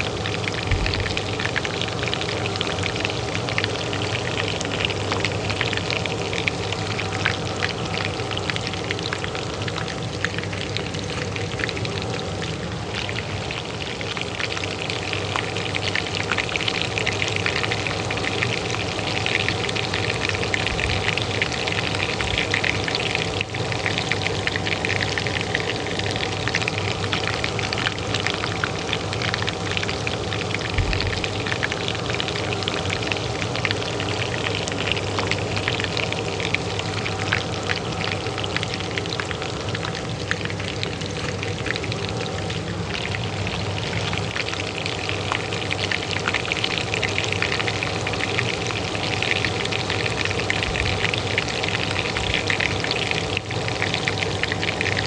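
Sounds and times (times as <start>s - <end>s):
oil frying and sizzling: 0.0s - 55.0s
range hood fan hum: 0.0s - 55.0s.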